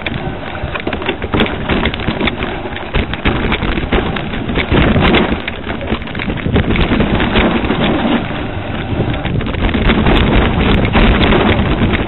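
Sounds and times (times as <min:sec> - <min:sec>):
bike knocks and rattles: 0:00.0 - 0:12.0
wind buffeting microphone: 0:00.0 - 0:12.0.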